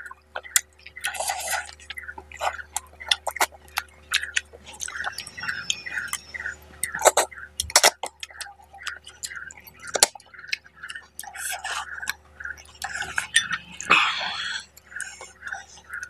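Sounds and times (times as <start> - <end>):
wet chewing with smacking: 0.0 - 16.0.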